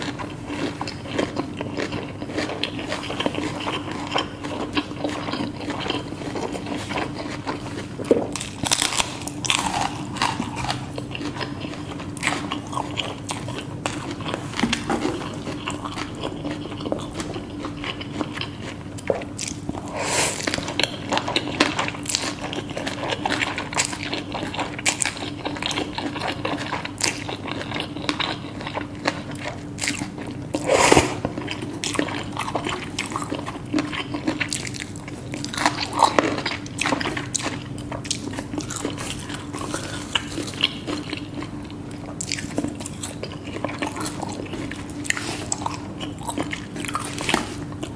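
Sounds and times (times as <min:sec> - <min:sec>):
crisp crunches of chewing: 0:00.0 - 0:47.9
faint steady hum: 0:00.0 - 0:47.9.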